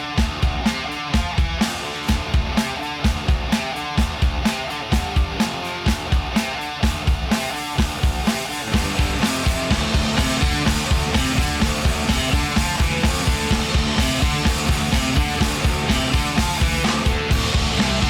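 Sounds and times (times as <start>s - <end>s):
guitar: 0.0s - 18.0s
steady drum beat: 0.0s - 18.0s
upbeat rock music: 0.0s - 18.0s.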